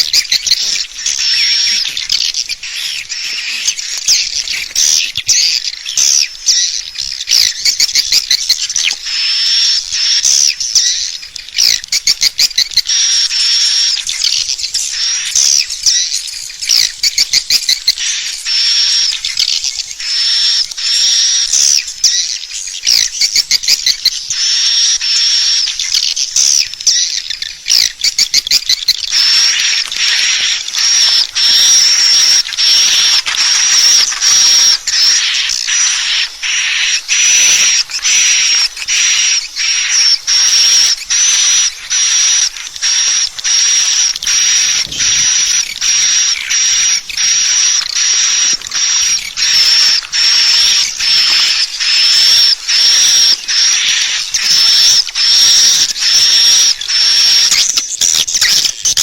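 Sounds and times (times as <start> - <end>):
swiftlet calls buzzy high chirps: 0.0 - 59.0.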